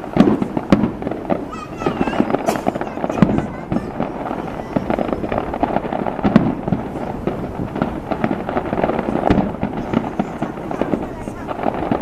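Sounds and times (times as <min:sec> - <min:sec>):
fireworks cracking and booming: 0:00.0 - 0:12.0
heavy fireworks bangs: 0:00.0 - 0:12.0.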